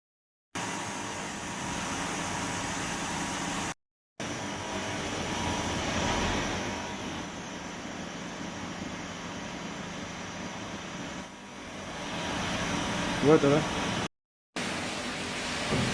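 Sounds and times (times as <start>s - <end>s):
boring machine hum and hiss: 0.6s - 15.9s.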